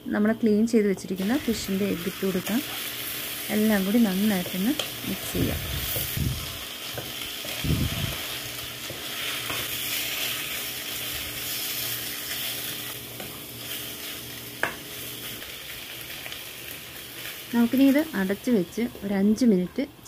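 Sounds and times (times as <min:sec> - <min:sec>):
food sizzling in a frying pan: 0:01.1 - 0:20.0.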